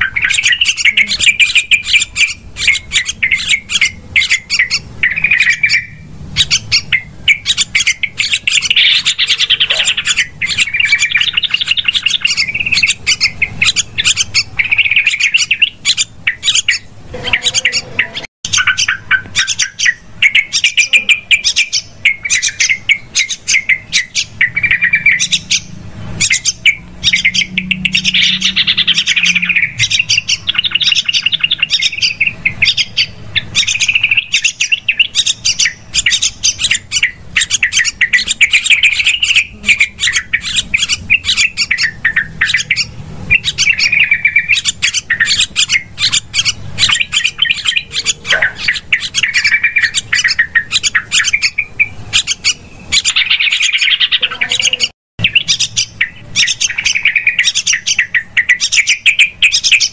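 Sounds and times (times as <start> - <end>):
bulbul chattering calls: 0.0 - 59.9.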